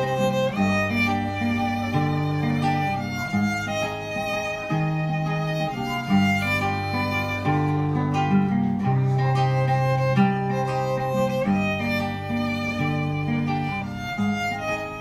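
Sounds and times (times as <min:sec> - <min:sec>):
plucked acoustic guitar: 0:00.0 - 0:15.0
violin bowed melody: 0:00.0 - 0:15.0.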